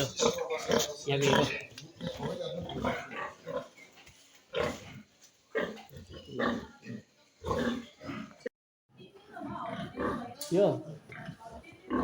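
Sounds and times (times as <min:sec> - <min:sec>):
pigs grunting: 0:00.0 - 0:03.8, 0:04.5 - 0:08.5, 0:09.4 - 0:12.0.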